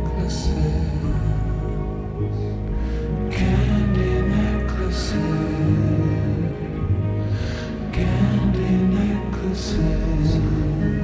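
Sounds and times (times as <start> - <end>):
slowed reverb-heavy pop ballad: 0.0 - 11.0.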